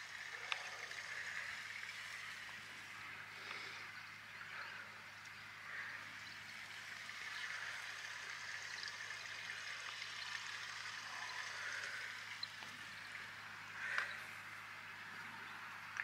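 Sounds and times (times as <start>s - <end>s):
ambient hiss: 0.0s - 16.0s
low steady hum: 0.0s - 16.0s.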